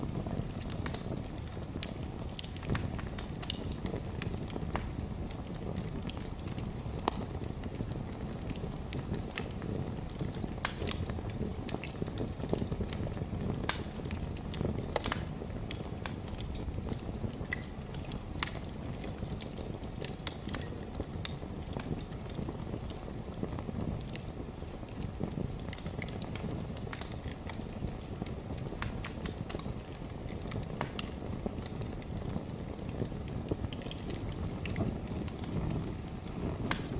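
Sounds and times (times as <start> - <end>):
fire crackling and popping: 0.0 - 36.9
fire flames rumbling: 0.0 - 36.9.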